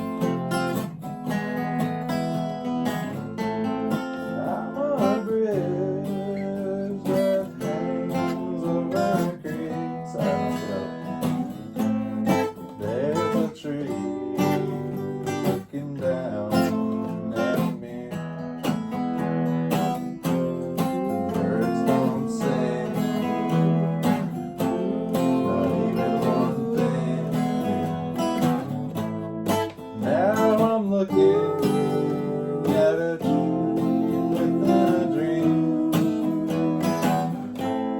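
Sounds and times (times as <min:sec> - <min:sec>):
picked lead guitar lines: 0:00.0 - 0:37.9
strummed guitar chords: 0:00.0 - 0:37.9.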